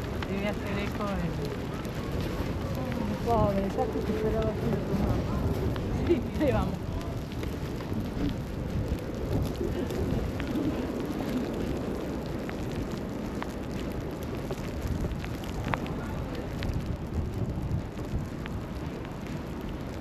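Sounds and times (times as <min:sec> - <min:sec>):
snow ticking: 0:00.0 - 0:20.0
traffic and wind rumble: 0:00.0 - 0:20.0.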